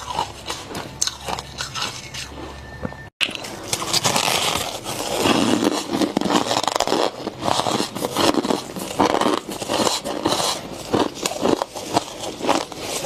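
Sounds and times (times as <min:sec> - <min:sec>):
frost crunching and crackling: 0:00.0 - 0:02.5, 0:03.2 - 0:13.0.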